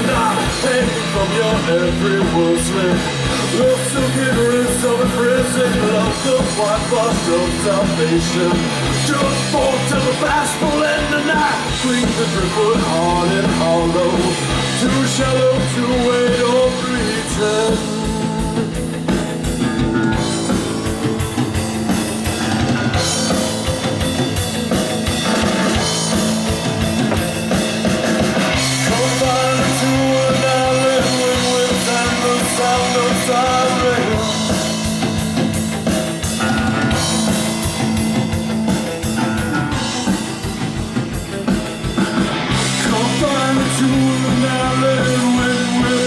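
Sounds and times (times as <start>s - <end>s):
drum kit beat: 0.0s - 46.0s
post-punk rock song: 0.0s - 46.0s.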